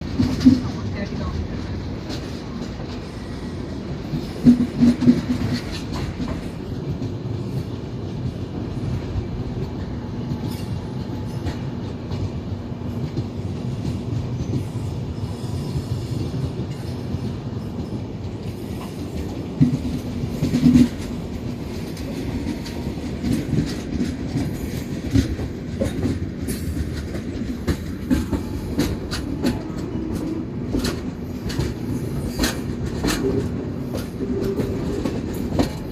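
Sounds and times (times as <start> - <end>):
train wheels clattering on rails: 0.0 - 35.9.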